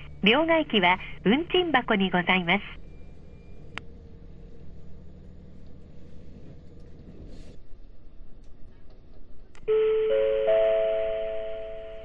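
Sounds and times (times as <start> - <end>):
railcar engine drone: 0.0 - 12.0.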